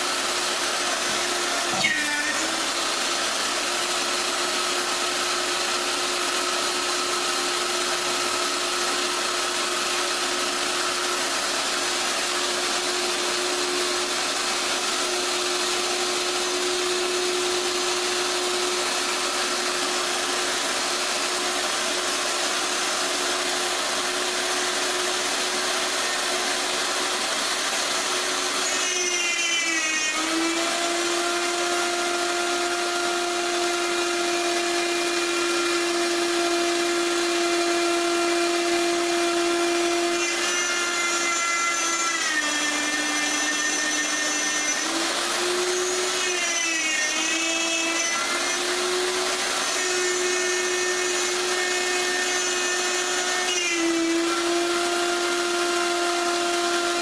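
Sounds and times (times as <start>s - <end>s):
electric jigsaw cutting: 0.0s - 57.0s.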